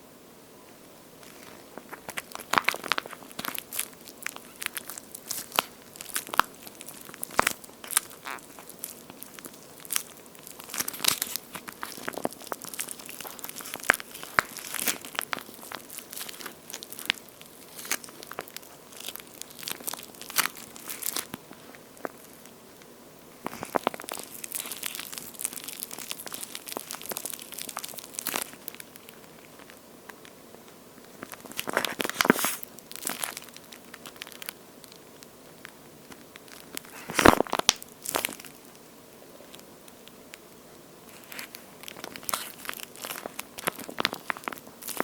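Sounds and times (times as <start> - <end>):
squishy toy crackling: 1.2 - 30.4, 31.0 - 45.0.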